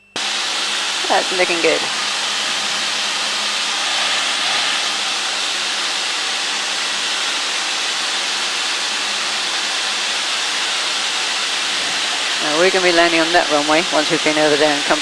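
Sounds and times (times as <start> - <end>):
airflow hiss in aircraft cabin: 0.2 - 15.0.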